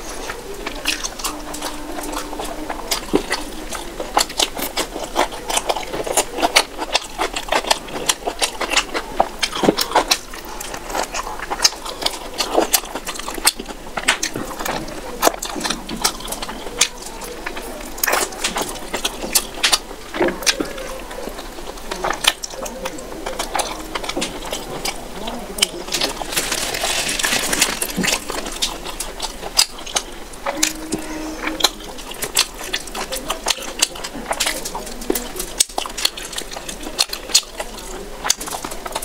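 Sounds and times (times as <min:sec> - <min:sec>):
chewing and lip smacking: 0:00.0 - 0:39.0.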